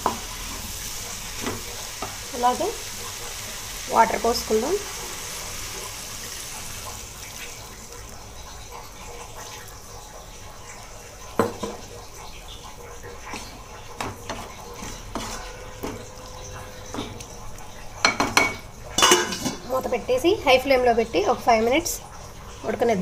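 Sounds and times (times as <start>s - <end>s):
water hissing in hot pan: 0.0s - 23.0s.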